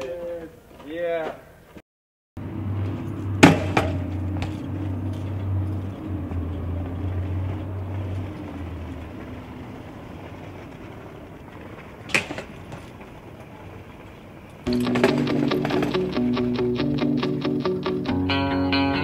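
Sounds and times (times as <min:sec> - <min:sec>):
bike rolling on concrete: 0:02.4 - 0:19.0.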